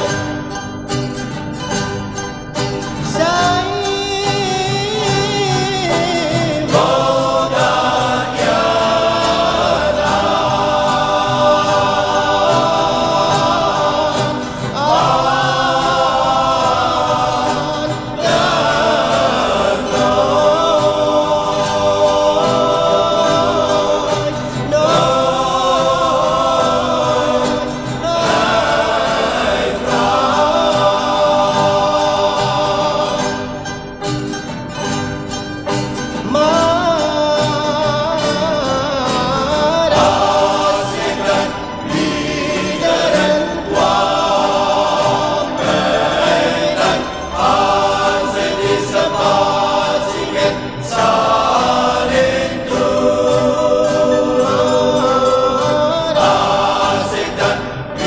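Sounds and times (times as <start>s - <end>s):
banjo accompaniment: 0.0s - 58.0s
lead voice singing: 3.0s - 35.2s, 36.1s - 58.0s
male choir singing: 3.1s - 35.4s, 36.1s - 58.0s.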